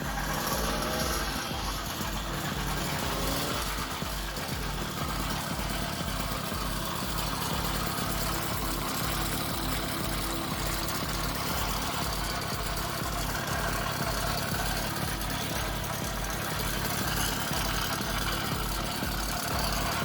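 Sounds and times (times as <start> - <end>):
motorized bicycle engine idling: 0.0 - 20.0.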